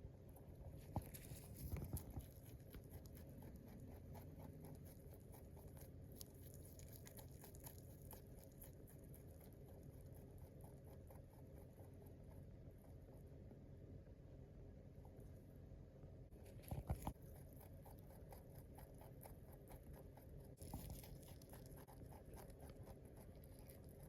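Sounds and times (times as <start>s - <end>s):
rabbit grinding teeth: 0.1s - 13.8s, 16.3s - 24.0s.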